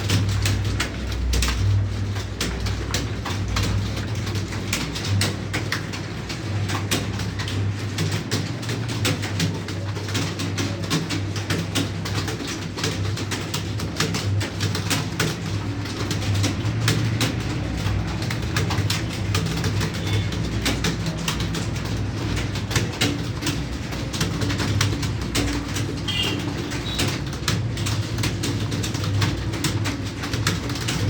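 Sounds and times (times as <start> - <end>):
fast keyboard typing: 0.0 - 31.0.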